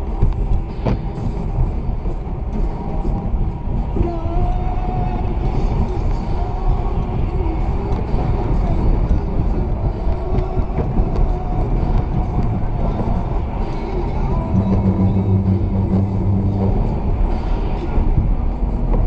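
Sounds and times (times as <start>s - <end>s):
car engine and tyre rumble: 0.0s - 19.0s
steady low hum: 0.0s - 19.0s.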